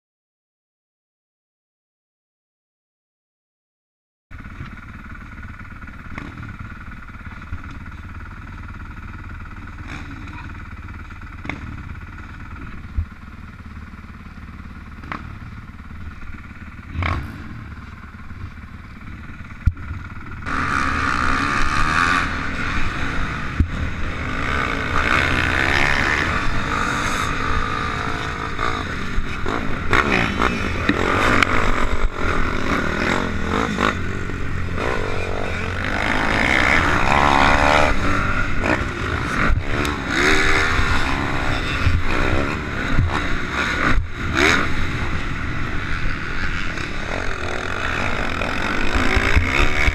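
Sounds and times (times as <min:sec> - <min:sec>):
dirt bike engine revving: 0:04.4 - 0:49.9.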